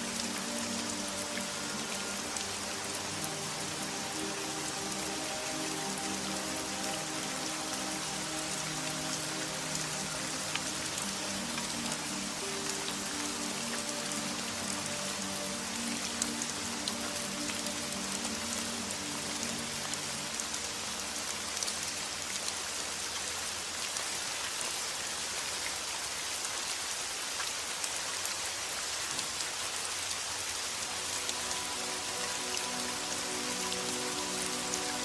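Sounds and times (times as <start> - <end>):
soft sustained music tones: 0.0 - 25.2, 30.2 - 35.0
steady rain: 0.0 - 35.0.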